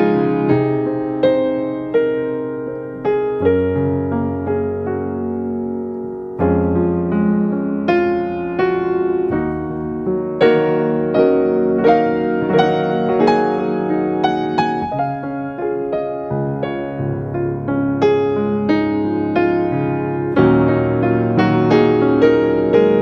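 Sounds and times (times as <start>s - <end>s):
soft slow piano music: 0.0s - 23.0s.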